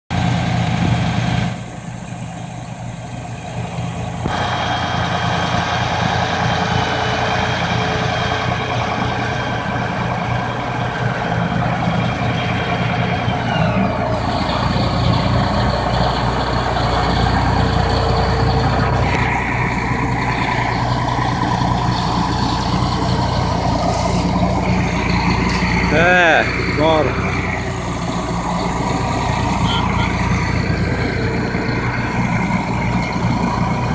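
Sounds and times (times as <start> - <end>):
tractor diesel engines under load: 0.1 - 33.9.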